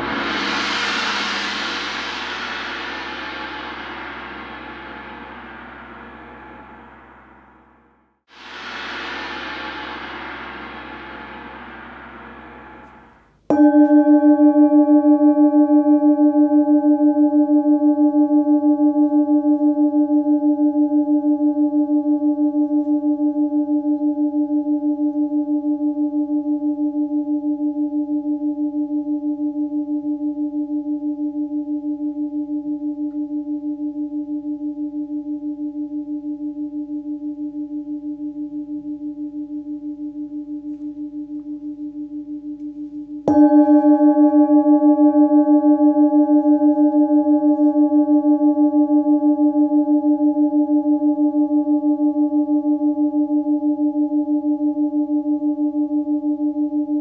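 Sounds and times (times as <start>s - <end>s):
singing bowl struck and ringing: 0.0s - 57.0s.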